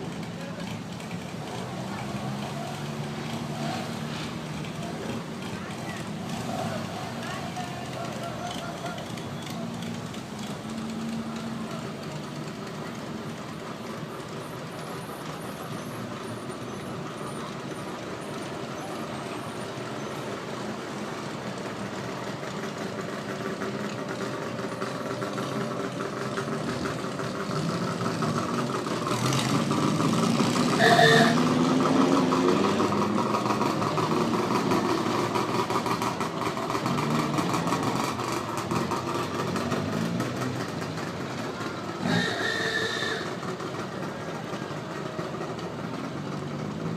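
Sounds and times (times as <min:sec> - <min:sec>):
old car engines running: 0:00.0 - 0:46.9.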